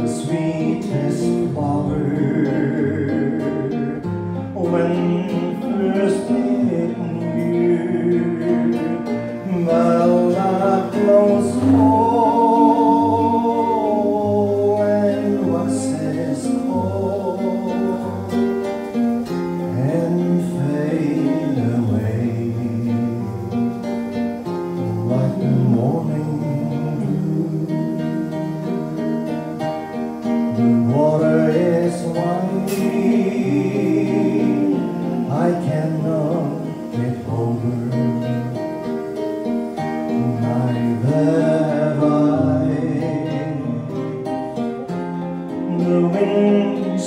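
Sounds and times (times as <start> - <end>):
acoustic guitars playing: 0.0 - 47.0
man singing: 0.0 - 47.0.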